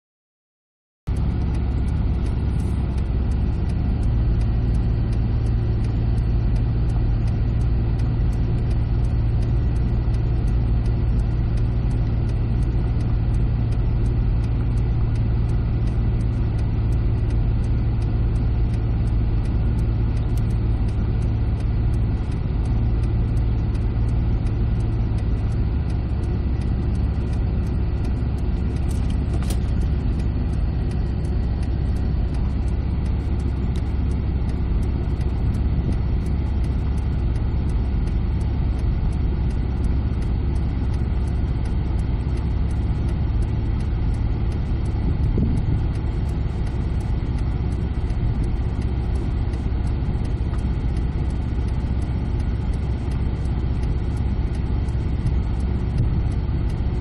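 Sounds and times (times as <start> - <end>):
car engine and tyre rumble: 1.1 - 57.0.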